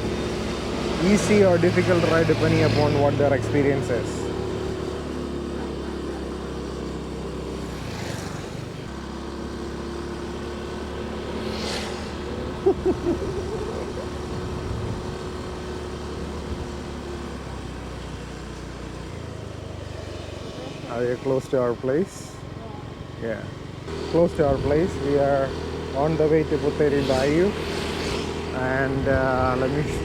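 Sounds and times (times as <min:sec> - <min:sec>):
motorcycle engine running: 0:00.0 - 0:30.0
road and wind noise: 0:00.0 - 0:30.0.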